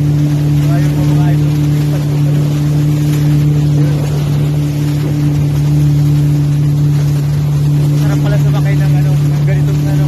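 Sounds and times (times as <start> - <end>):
jet ski engine running: 0.0 - 10.0
water rushing: 0.0 - 10.0.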